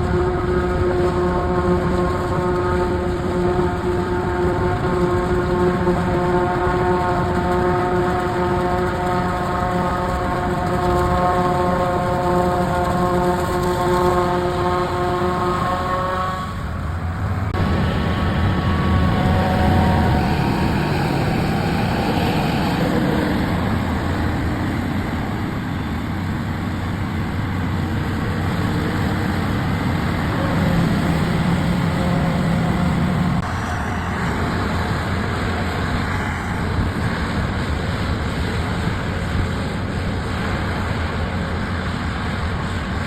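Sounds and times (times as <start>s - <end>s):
low engine hum: 0.0s - 42.1s
road noise: 0.0s - 43.0s.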